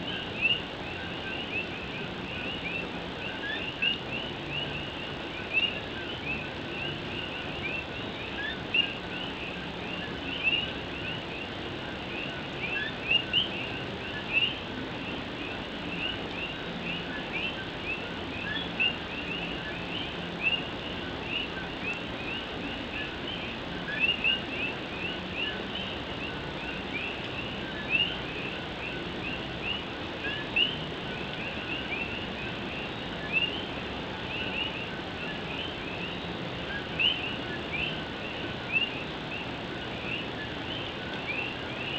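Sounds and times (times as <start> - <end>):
frogs chirping: 0.0 - 41.9
rain on a tin roof: 0.0 - 41.9.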